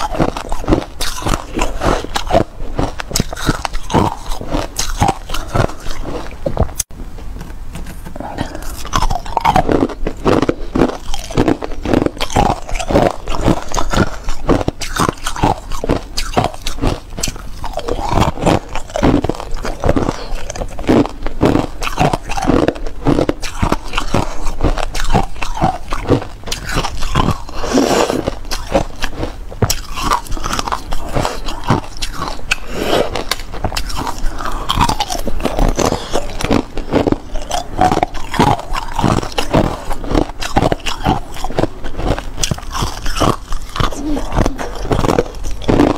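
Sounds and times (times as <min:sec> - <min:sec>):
ice being bitten and chewed: 0:00.0 - 0:06.9, 0:07.8 - 0:45.9.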